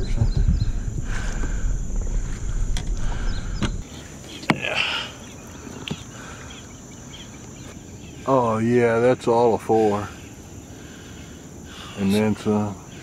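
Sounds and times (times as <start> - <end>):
low outdoor rumble: 0.0 - 12.2
crickets droning: 0.0 - 13.0.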